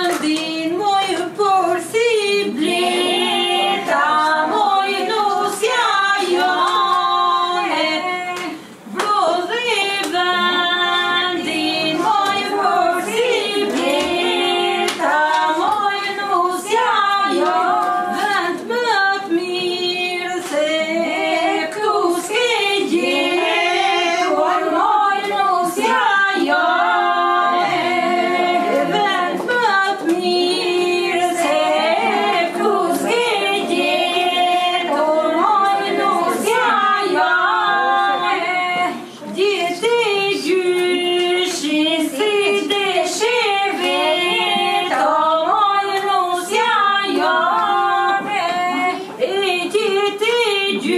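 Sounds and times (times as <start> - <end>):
women singing without instruments: 0.0 - 50.9.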